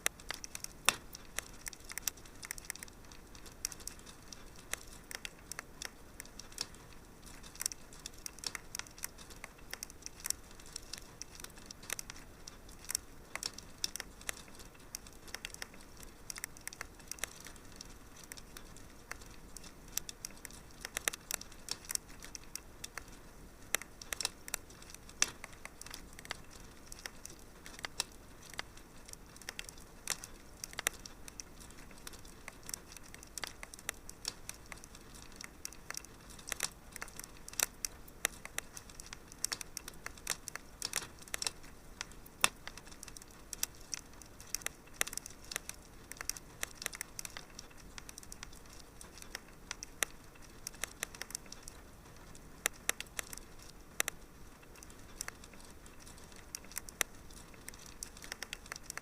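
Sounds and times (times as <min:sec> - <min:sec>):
faint steady hiss: 0:00.0 - 0:59.0
fire crackling and popping: 0:00.0 - 0:59.0.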